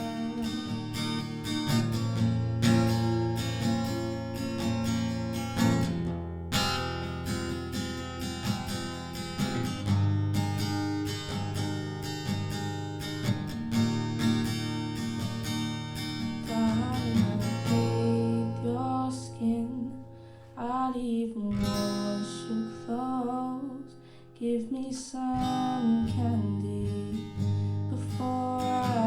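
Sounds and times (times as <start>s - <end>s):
acoustic guitar strumming: 0.0s - 24.6s, 25.2s - 29.0s.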